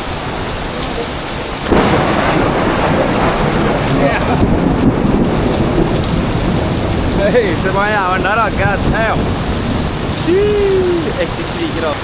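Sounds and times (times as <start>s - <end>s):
heavy rain hissing: 0.0s - 12.0s
thunder clap and rumble: 0.0s - 12.0s.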